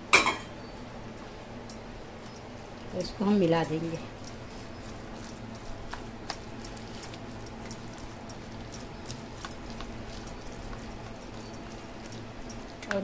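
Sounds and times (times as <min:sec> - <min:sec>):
mixing in a bowl clicks: 0:01.7 - 0:13.0.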